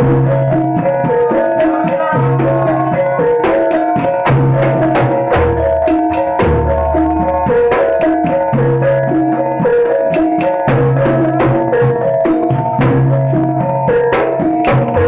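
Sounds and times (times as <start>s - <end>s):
drum strokes: 0.0s - 15.0s
repeating held-note melody: 0.0s - 15.0s.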